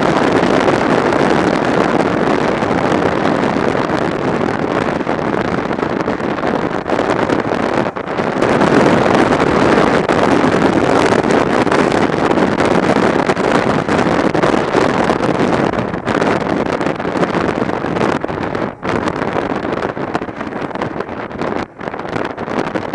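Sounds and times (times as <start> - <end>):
motorcycle ride noise: 0.0 - 22.9
wind rushing on microphone: 0.0 - 22.9.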